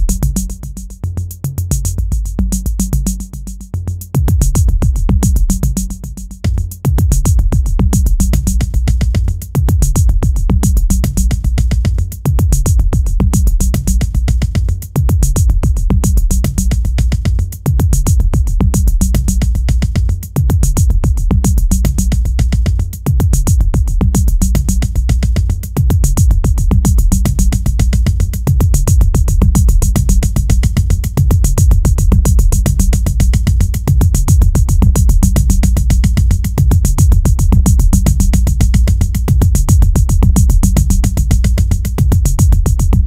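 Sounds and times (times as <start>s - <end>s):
drum-machine beat: 0.0s - 43.0s
heavy bass line: 0.0s - 43.0s.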